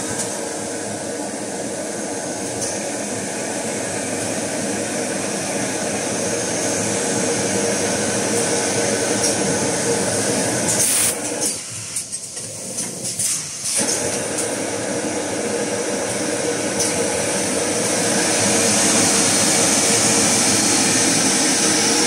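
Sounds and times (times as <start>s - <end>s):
wrapping machine drone and whine: 0.0s - 22.0s.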